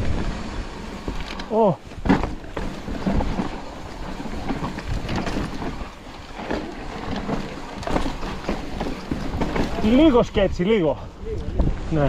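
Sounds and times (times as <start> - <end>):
wind rushing over microphone: 0.0 - 12.0
bike rattling and knocking: 0.7 - 11.8.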